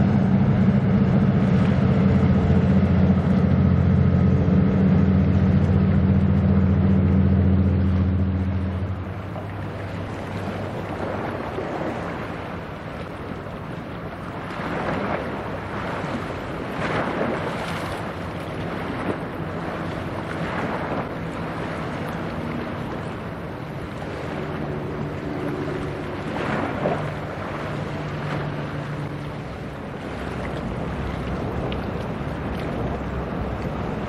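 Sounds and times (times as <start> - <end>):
ship engine humming: 0.0 - 34.0
water washing: 0.0 - 34.0
wind gusts on microphone: 0.0 - 34.0.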